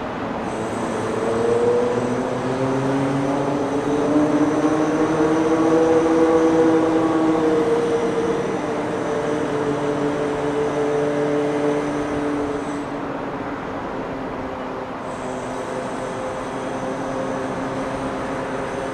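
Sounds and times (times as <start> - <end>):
aircraft engine drone: 0.0 - 18.9.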